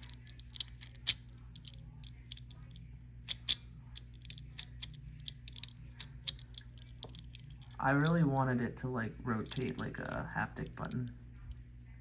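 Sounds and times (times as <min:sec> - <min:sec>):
metal fidget toy clicking: 0:00.0 - 0:08.2, 0:09.4 - 0:11.1
steady low hum: 0:00.0 - 0:12.0.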